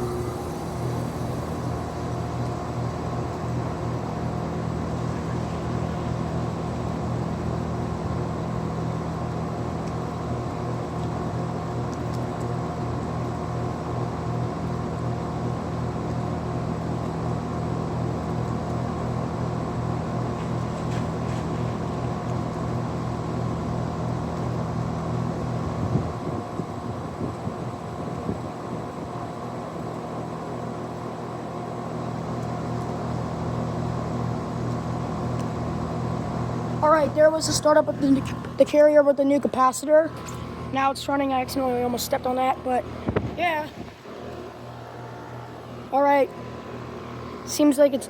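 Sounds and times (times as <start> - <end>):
heat pump compressor and fan hum: 0.0 - 48.0.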